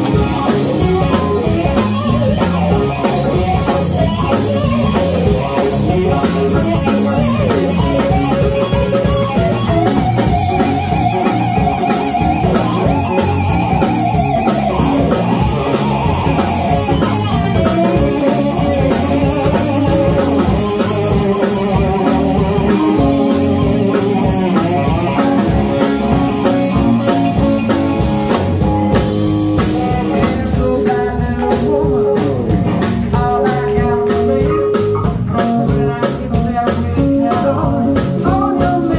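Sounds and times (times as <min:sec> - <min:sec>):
drum kit: 0:00.0 - 0:38.9
electric bass: 0:00.0 - 0:38.9
electric guitar: 0:00.0 - 0:38.9
keyboard: 0:00.0 - 0:38.9.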